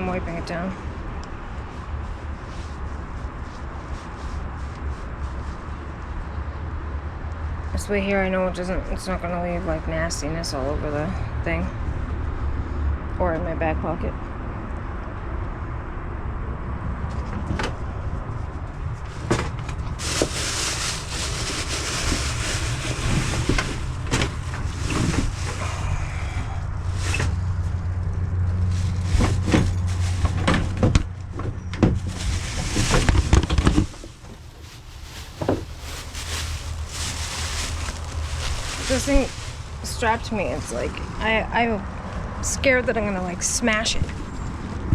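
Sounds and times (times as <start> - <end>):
vehicle engine rumbling: 0.0 - 44.9.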